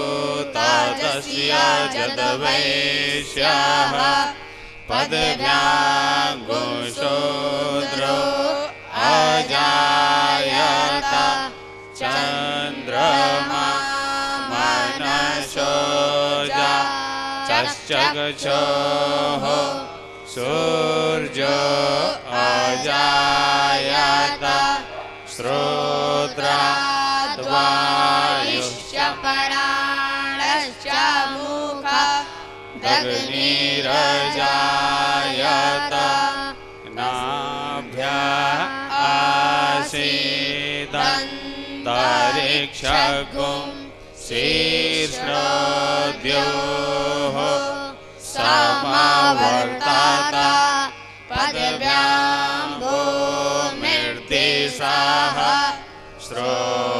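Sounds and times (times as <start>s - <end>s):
boys chanting hymns: 0.0s - 56.9s.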